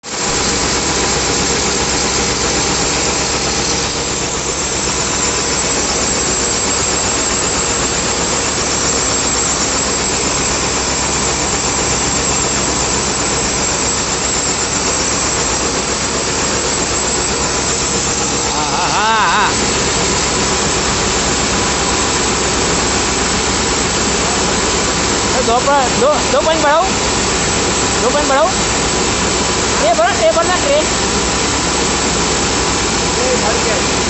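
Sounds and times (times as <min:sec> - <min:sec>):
machine running: 0:00.0 - 0:34.0.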